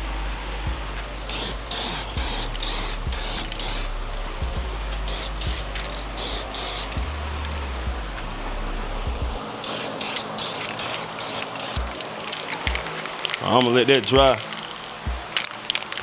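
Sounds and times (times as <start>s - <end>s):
spray paint can hissing: 0.0s - 16.0s.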